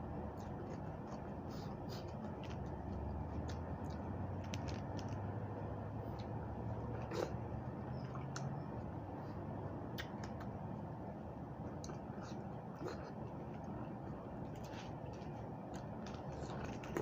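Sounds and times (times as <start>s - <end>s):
chewing raw vegetables: 0.0s - 10.7s, 11.6s - 17.0s
steady low hum: 0.0s - 17.0s.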